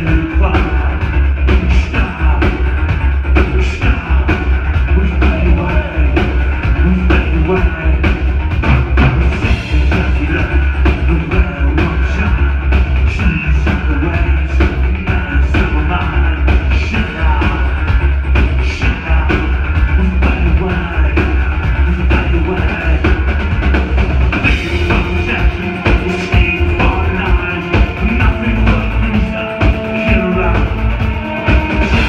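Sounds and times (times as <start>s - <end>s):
industrial band playing: 0.0s - 32.0s
pounding drum beat: 0.0s - 32.0s.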